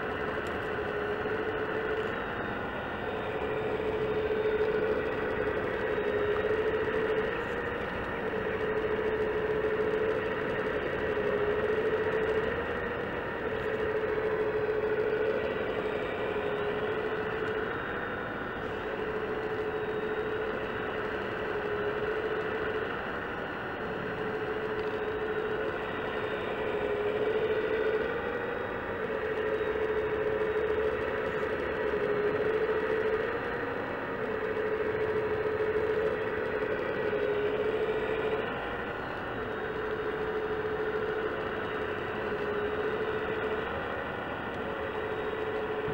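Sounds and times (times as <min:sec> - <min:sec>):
hydraulic pump whine: 0:00.0 - 0:45.9
motor hum: 0:00.0 - 0:45.9.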